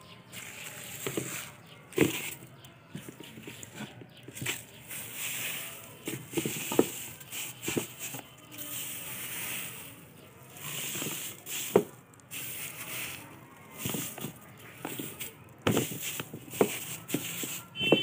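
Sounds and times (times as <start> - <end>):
garlic skins rustling: 0.2 - 18.0.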